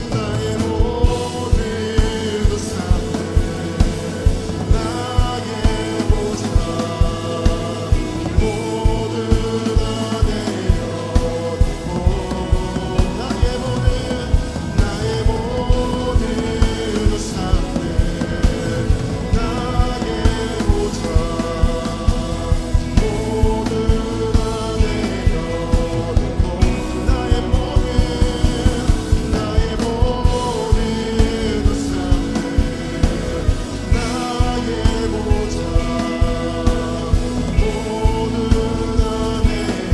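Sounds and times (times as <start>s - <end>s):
singing over a band: 0.0s - 39.9s
steady drum beat: 0.0s - 39.9s
sustained keyboard chords: 0.0s - 39.9s.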